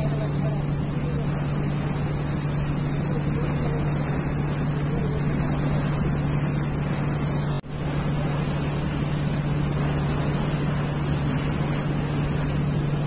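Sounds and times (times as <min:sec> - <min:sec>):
boat engine hum: 0:00.0 - 0:13.0
water noise: 0:00.0 - 0:13.0
wind: 0:00.0 - 0:13.0.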